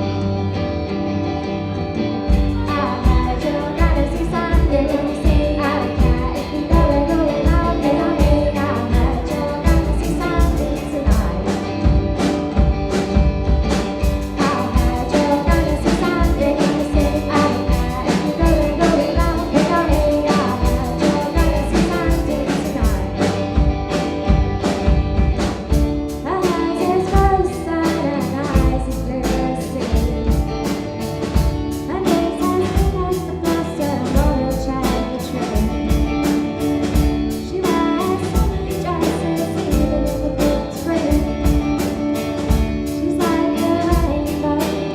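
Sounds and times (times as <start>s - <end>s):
guitar: 0.0s - 44.9s
person singing: 2.2s - 12.3s, 13.7s - 24.1s, 26.2s - 30.8s, 31.8s - 44.9s
busy drum beat: 2.2s - 44.9s.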